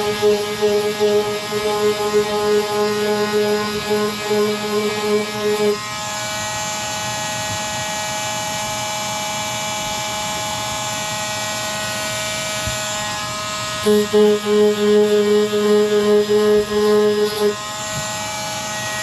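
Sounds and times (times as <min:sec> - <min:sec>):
electric sander whirring: 0:00.0 - 0:19.0.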